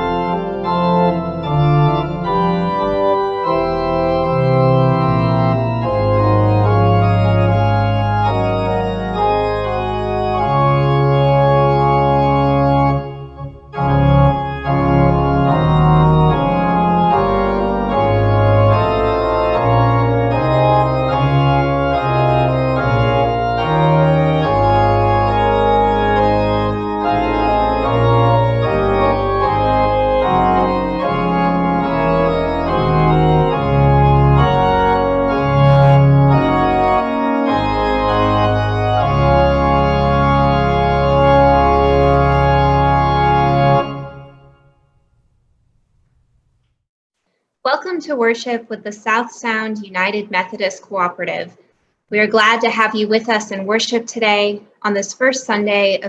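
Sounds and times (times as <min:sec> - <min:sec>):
organ chords: 0:00.0 - 0:46.5.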